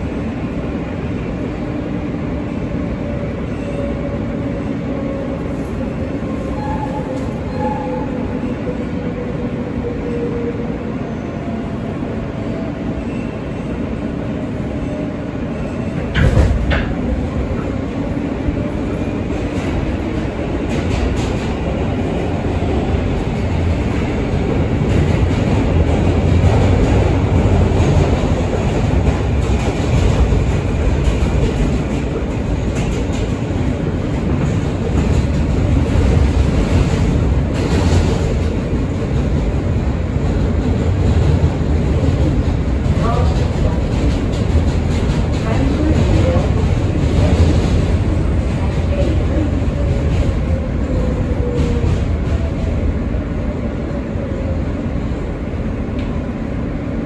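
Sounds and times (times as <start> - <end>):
subway train rumble from inside: 0.0 - 57.0.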